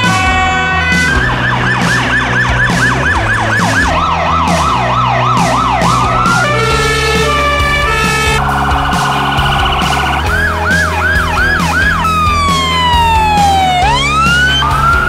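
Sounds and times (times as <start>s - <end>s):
emergency siren yelping: 0.0s - 15.0s.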